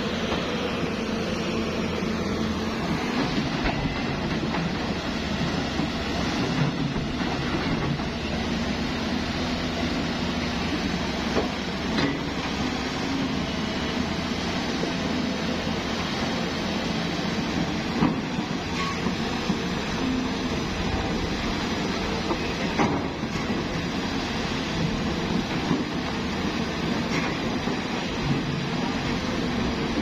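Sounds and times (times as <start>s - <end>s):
excavator running: 0.0s - 30.0s.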